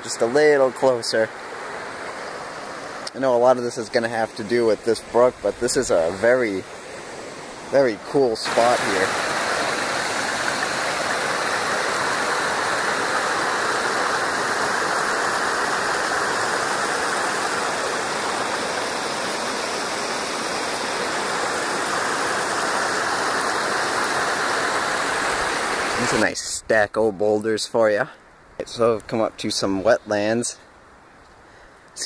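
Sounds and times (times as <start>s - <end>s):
brook rushing over a cascade: 0.0s - 26.3s.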